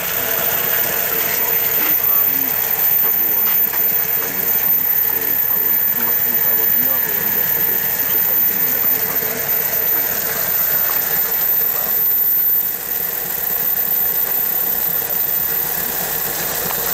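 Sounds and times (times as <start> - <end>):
metal lathe humming and rattling: 0.0 - 16.9.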